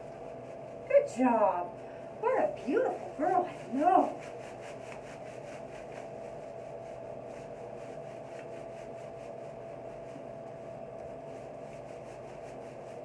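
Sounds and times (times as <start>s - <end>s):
hands rubbing wet fur: 0.0s - 13.0s
mechanical fan hum: 0.0s - 13.0s.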